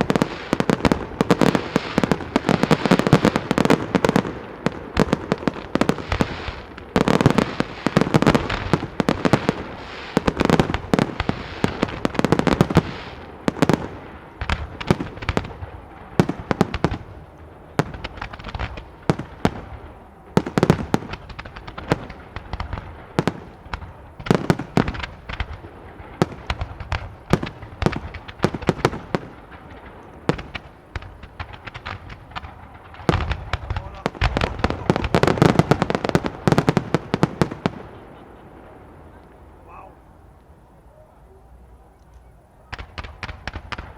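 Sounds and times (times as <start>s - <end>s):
fireworks bursting: 0.0s - 40.5s, 42.2s - 43.9s.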